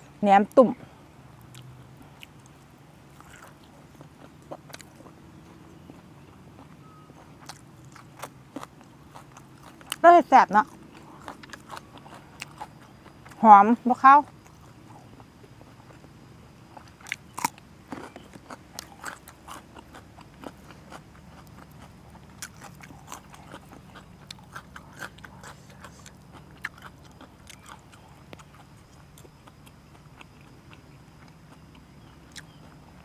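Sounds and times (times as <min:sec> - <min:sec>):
chewing with small crunches: 0:00.0 - 0:33.0
crunching bites: 0:02.2 - 0:10.0, 0:10.6 - 0:13.4, 0:14.2 - 0:33.0.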